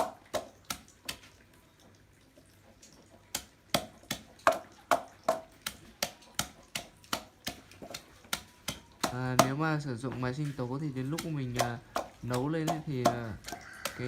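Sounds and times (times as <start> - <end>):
pestle pounding in a mortar: 0.0 - 1.3, 3.4 - 14.0.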